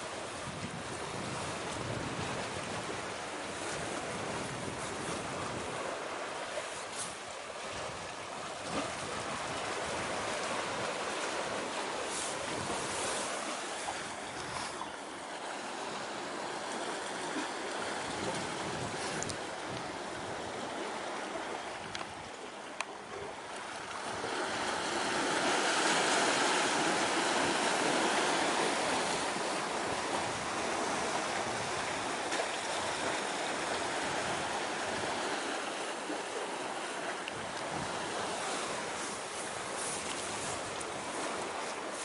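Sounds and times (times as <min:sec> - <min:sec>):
sea waves washing on shore: 0:00.0 - 0:42.0.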